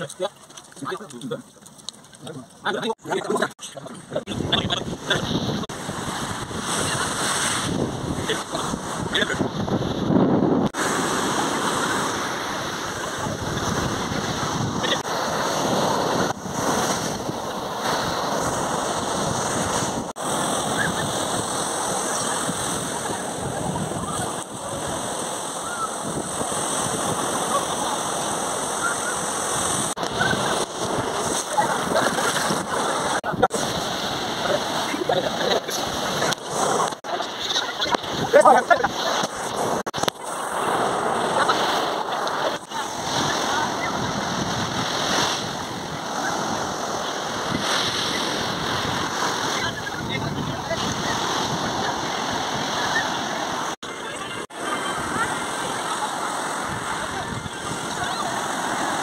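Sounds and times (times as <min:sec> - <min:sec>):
surf breaking on beach: 0:04.2 - 0:59.0.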